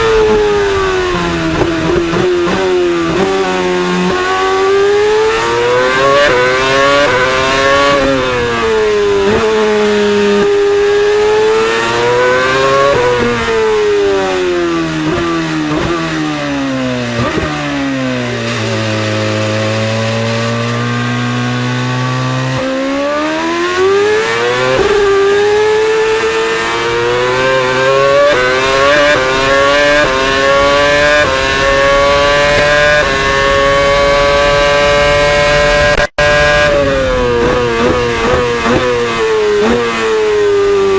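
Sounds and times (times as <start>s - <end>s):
racing car engine revving: 0.0s - 40.9s.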